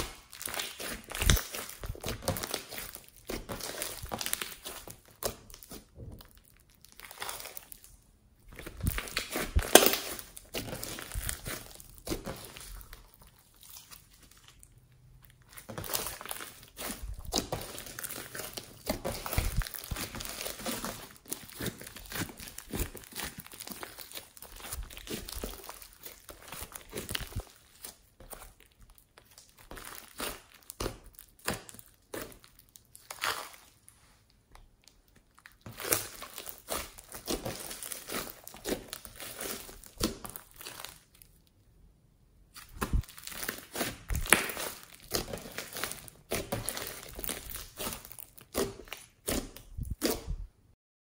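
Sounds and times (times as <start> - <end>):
slime squelching: 0.0 - 41.4, 42.5 - 50.7.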